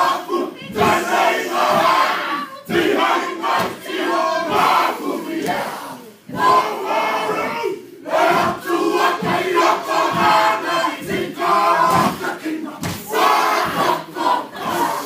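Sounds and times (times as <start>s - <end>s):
crowd chanting in unison: 0.0s - 15.0s.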